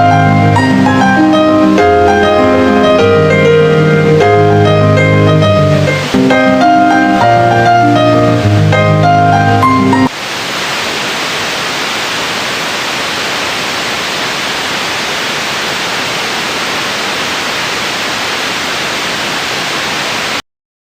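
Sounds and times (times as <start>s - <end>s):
static hiss: 0.0s - 20.4s.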